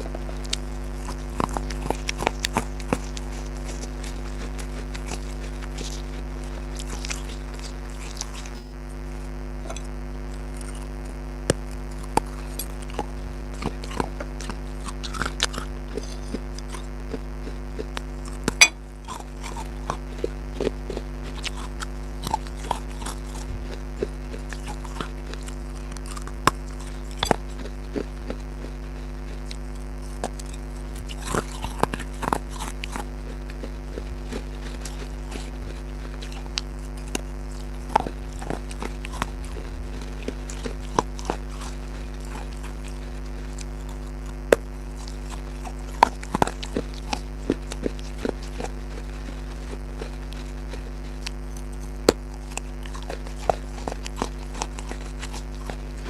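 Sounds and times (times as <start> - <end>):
crunchy food being chewed: 0.0 - 56.0
electrical hum: 0.0 - 56.0.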